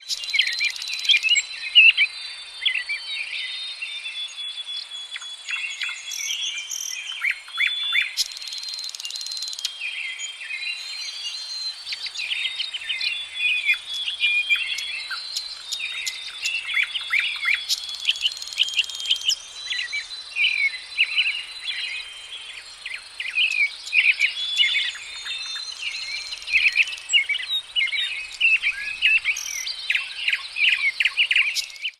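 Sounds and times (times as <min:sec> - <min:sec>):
songbirds chirping and singing: 0:00.0 - 0:31.9
steady high-pitched hiss: 0:00.0 - 0:31.9.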